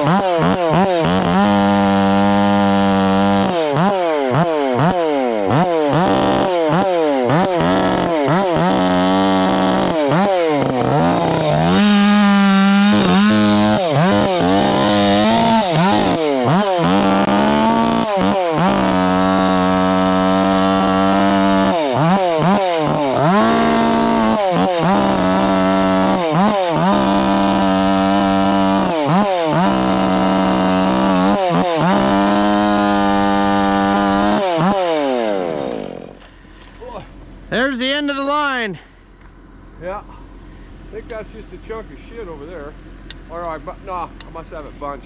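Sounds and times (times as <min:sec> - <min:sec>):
chainsaw cutting: 0:00.0 - 0:45.0.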